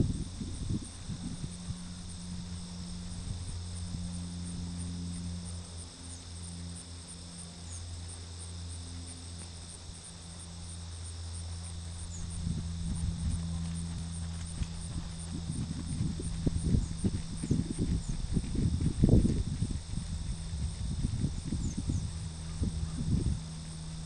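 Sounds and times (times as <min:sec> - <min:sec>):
crickets chirping: 0:00.0 - 0:24.0
low hum: 0:00.0 - 0:24.0.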